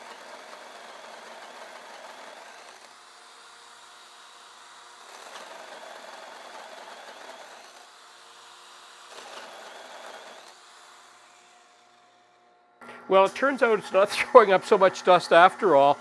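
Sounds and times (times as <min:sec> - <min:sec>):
hole saw cutting wood: 0:00.0 - 0:16.0
lathe and dust collector humming: 0:00.0 - 0:16.0.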